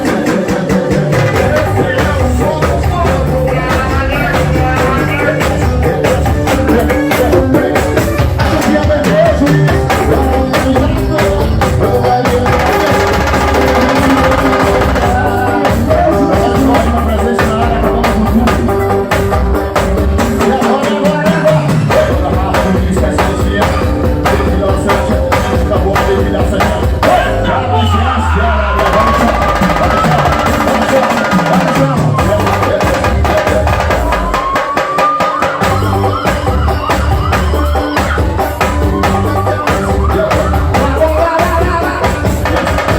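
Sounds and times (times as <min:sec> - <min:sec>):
band playing amplified music: 0:00.0 - 0:42.9
drum kit and percussion beat: 0:00.0 - 0:42.9.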